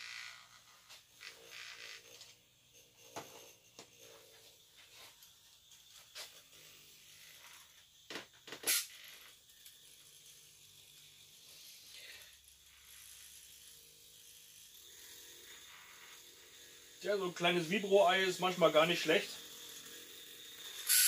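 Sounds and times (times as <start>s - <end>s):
vibrating egg buzzing against cup: 0.0s - 21.0s.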